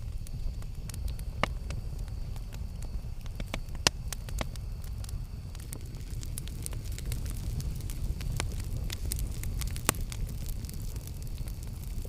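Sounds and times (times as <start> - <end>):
campfire low rumble: 0.0 - 12.0
wood crackling and popping: 0.0 - 12.0.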